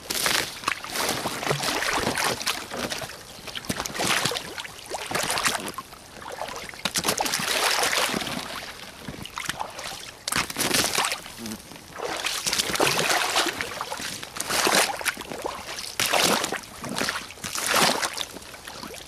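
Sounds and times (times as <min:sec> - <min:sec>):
boots splashing through slush: 0:00.1 - 0:11.3, 0:11.9 - 0:19.0.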